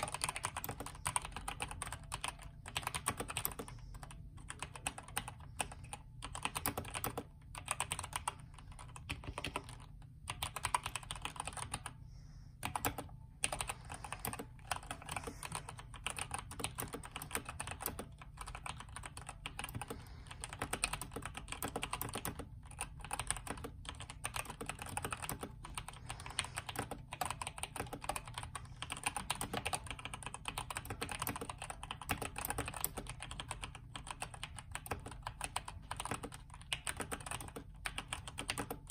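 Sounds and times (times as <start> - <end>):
fast typing on mechanical keyboard: 0.0 - 12.0, 12.6 - 38.9.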